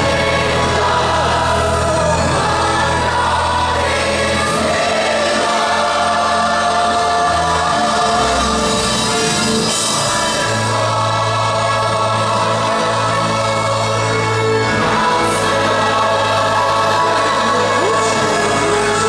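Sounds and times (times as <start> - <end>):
gospel choir singing: 0.0 - 19.0
orchestra accompaniment: 0.0 - 19.0.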